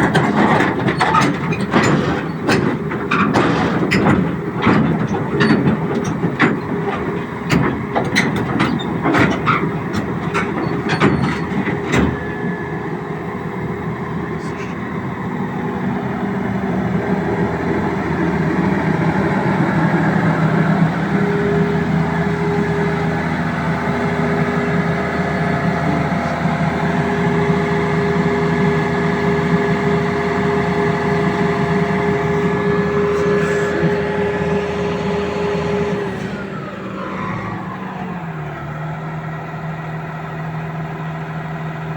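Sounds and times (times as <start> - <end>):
excavator diesel engine revving: 0.0 - 41.9.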